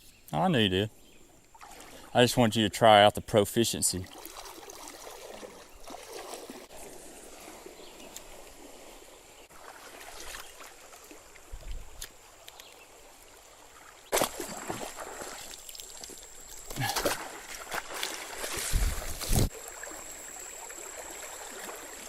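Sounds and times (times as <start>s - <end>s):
creek water flowing: 0.5s - 22.0s.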